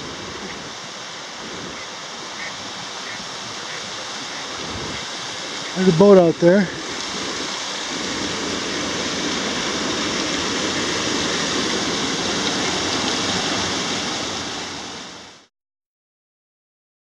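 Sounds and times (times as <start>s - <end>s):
water rushing: 0.0s - 15.5s.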